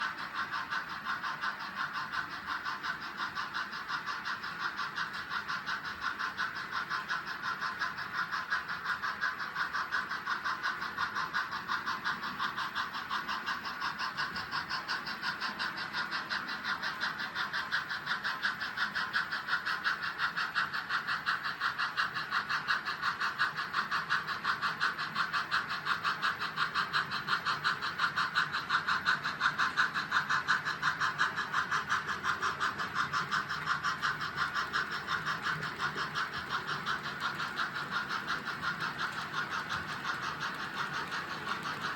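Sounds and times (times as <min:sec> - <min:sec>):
model locomotive motor whirring: 0:00.0 - 0:41.9
model train wheels clicking: 0:00.0 - 0:41.9.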